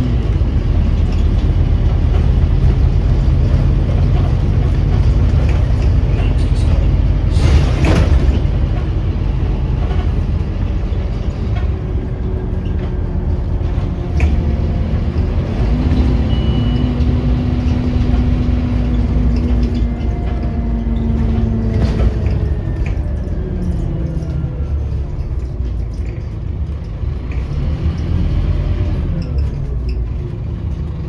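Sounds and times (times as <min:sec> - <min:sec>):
drivetrain whine: 0:00.0 - 0:27.5
bus engine and road rumble: 0:00.0 - 0:31.0.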